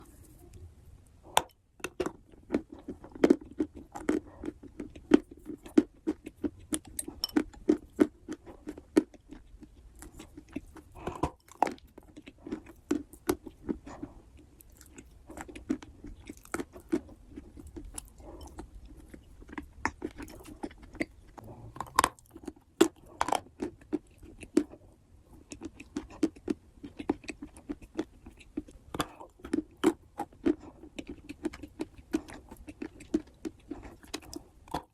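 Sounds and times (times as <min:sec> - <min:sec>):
person chewing wet clay: 0:01.2 - 0:34.9.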